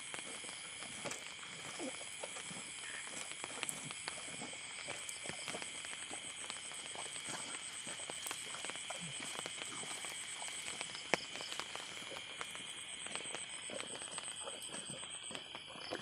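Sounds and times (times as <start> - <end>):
insect trills: 0.0 - 16.0.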